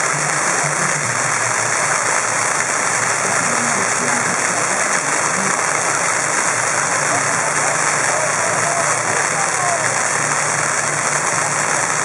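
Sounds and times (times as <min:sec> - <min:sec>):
murmur of crowd voices: 0:00.0 - 0:12.0
steady hissing noise: 0:00.0 - 0:12.0.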